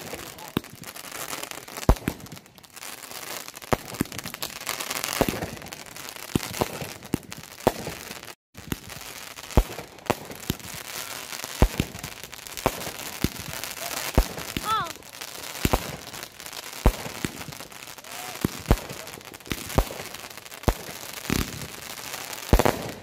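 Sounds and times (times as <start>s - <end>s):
firework bangs: 0.0s - 23.0s
firework crackling hiss: 0.0s - 23.0s.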